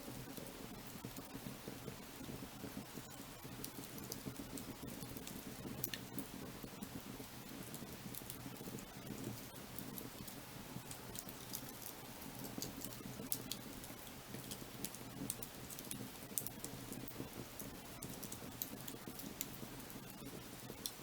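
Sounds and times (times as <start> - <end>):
wood fire crackling: 0.0 - 21.0
burning logs rushing: 2.2 - 21.0.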